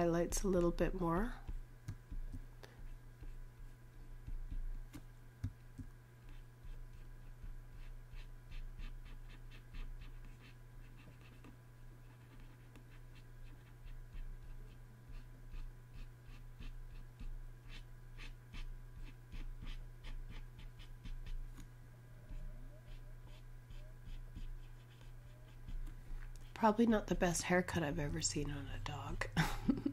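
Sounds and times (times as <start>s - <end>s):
low electrical hum: 0.0s - 29.9s
stylus scratching on tablet: 0.1s - 5.6s, 6.2s - 21.6s, 22.2s - 29.4s.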